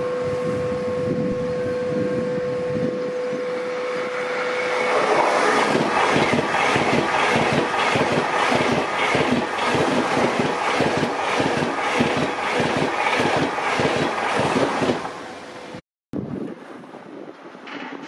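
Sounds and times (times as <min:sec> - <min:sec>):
train passing at speed: 0:00.0 - 0:15.8.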